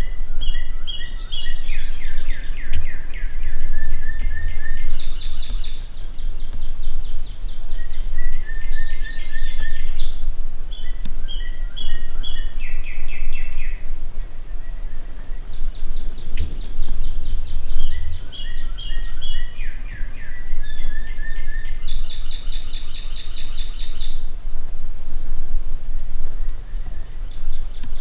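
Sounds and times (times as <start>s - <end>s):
songbirds singing: 0.0s - 28.0s
steady low rumble: 0.0s - 28.0s.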